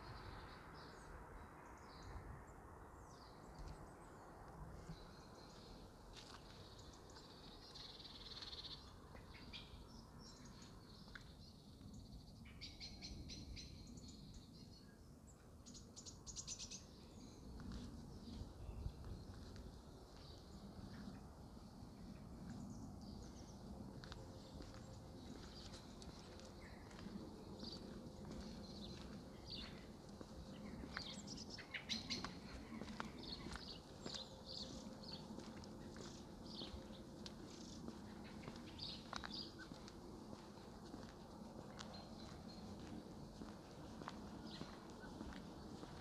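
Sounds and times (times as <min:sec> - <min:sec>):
songbirds chirping: 0:00.0 - 0:46.0.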